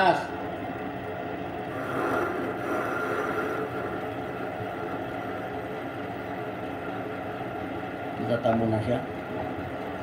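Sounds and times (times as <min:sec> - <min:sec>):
lathe motor and gear hum: 0:00.4 - 0:10.0.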